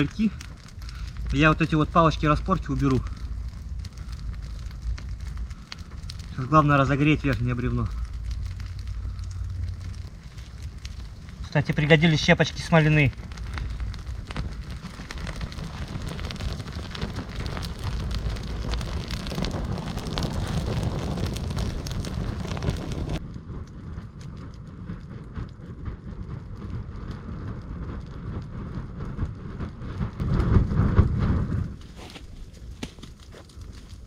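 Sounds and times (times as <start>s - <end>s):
low rumble on microphone: 0.0s - 34.0s
wood fire crackling: 0.0s - 34.0s.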